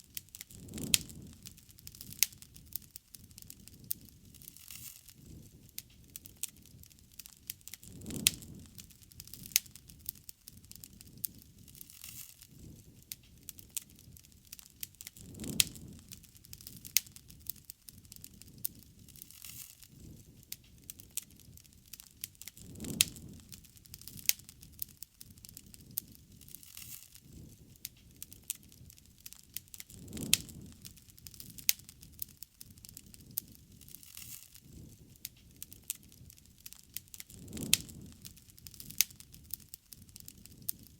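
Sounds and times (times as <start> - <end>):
campfire crackling and popping: 0.0 - 40.9
rush of flame: 0.0 - 40.9.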